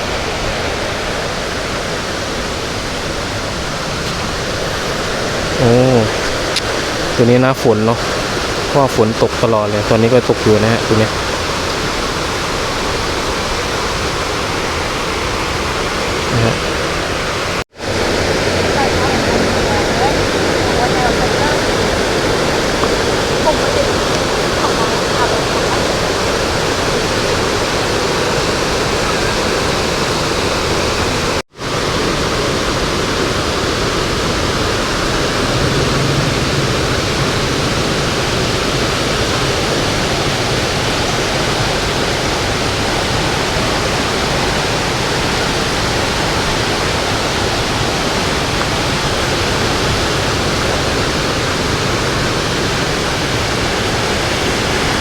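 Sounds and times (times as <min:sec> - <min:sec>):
fast-flowing stream water: 0:00.0 - 0:55.0.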